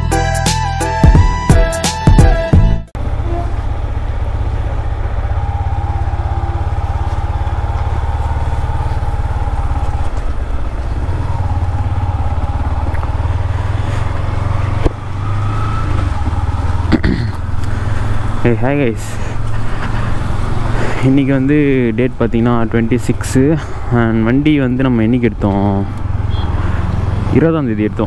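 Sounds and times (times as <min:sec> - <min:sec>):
motorcycle engine running: 0:03.0 - 0:28.0.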